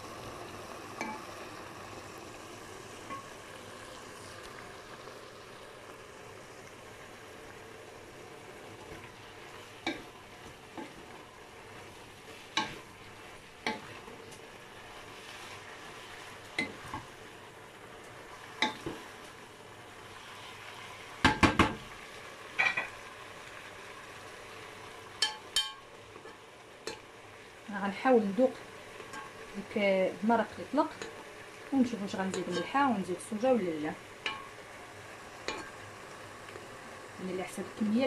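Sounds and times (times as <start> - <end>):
vegetables and chicken sizzling: 0.0 - 38.0.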